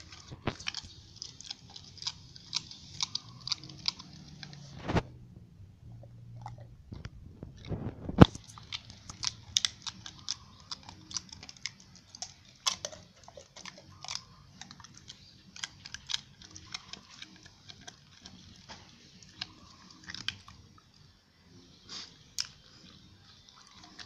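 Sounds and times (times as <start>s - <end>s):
dog chewing crinkling plastic: 0.0s - 5.0s, 6.4s - 21.1s, 22.4s - 24.0s.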